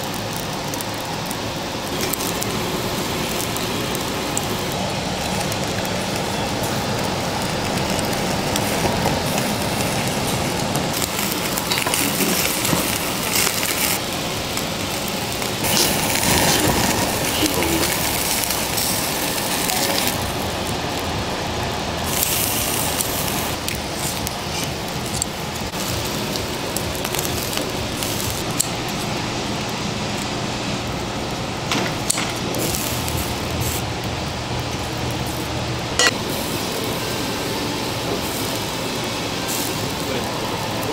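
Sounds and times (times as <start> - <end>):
meat sizzling on grill: 0.0 - 40.9.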